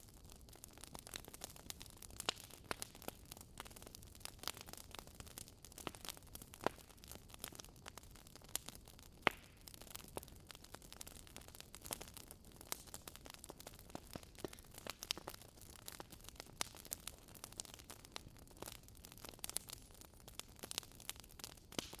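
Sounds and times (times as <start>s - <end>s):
logs crackling in a fireplace: 0.0s - 22.0s.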